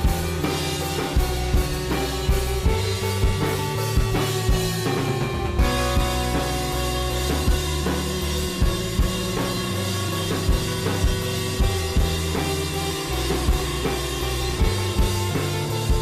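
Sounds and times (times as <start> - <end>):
drum kit beat: 0.0 - 16.0
held bass and synth tones: 0.0 - 16.0.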